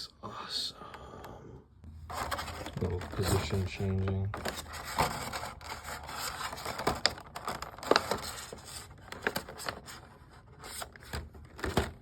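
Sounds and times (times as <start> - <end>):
packaging rustling: 2.1 - 12.0.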